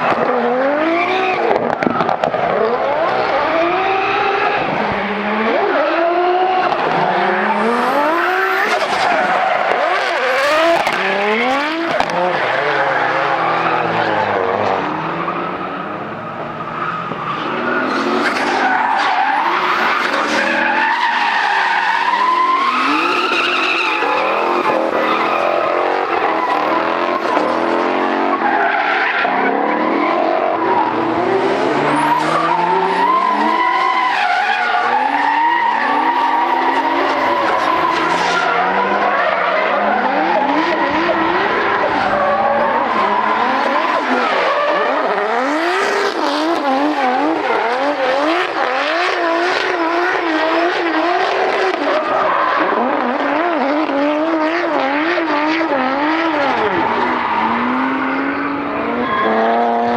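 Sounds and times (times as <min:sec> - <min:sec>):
car engines revving hard: 0:00.0 - 0:59.9
tyres squealing and skidding: 0:00.0 - 0:59.9.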